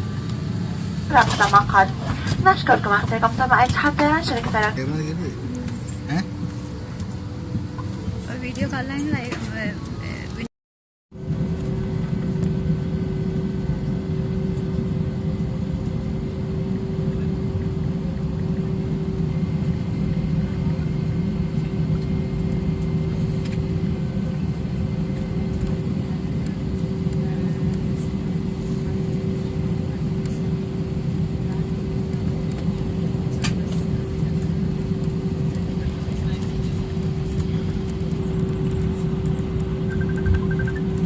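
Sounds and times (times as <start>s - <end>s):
jet airliner rumble and hum: 0.0s - 10.5s, 11.2s - 41.0s.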